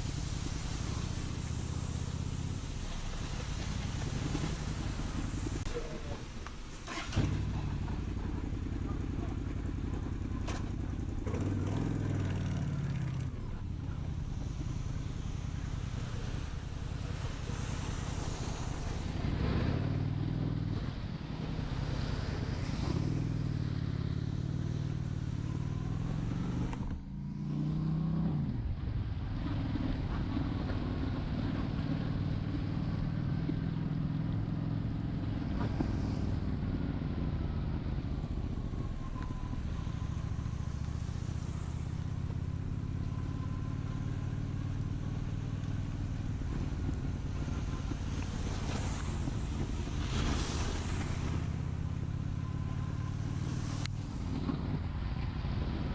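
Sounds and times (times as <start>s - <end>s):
wind and road noise: 0.0s - 55.9s
motorcycle engine running: 6.9s - 55.9s.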